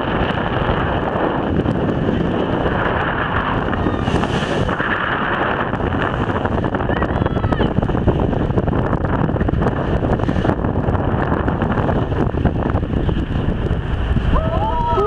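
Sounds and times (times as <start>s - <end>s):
rough sea: 0.0s - 15.0s
wind buffeting microphone: 0.0s - 15.0s.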